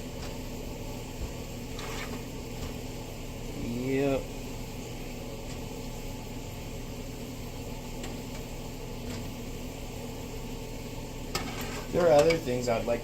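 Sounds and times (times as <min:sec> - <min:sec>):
kitchen appliance fan whirring: 0:00.0 - 0:13.0.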